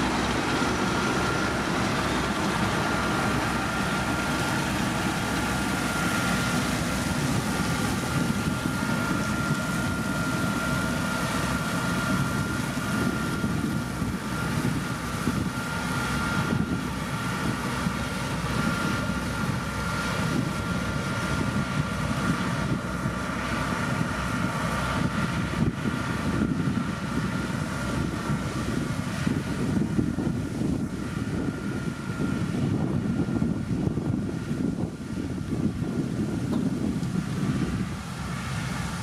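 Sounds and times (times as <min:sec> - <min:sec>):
diesel machinery engine drone: 0:00.0 - 0:39.0
high-pitched whine: 0:00.0 - 0:39.0.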